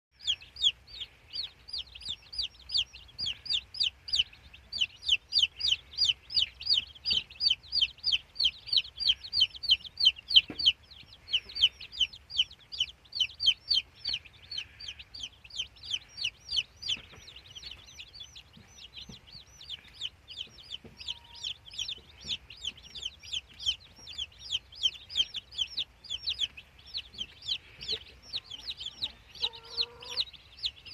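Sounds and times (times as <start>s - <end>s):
chicks peeping: 0.2s - 30.9s.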